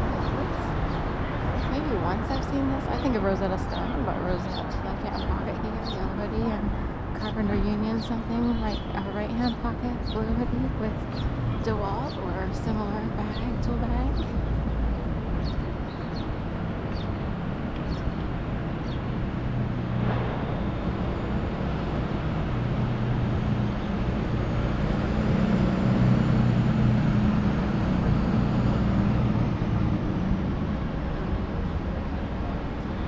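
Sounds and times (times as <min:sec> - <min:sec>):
city street traffic: 0:00.0 - 0:33.0
vehicle engine humming: 0:00.0 - 0:33.0.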